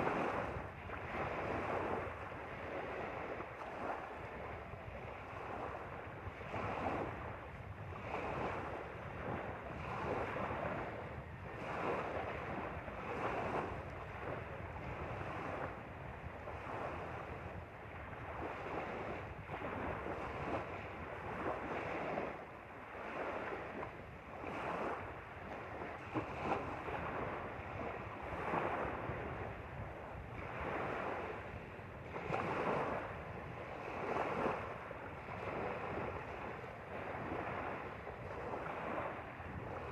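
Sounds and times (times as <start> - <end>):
waves lapping at shore: 0.0 - 39.9
wind rumbling on microphone: 0.0 - 39.9.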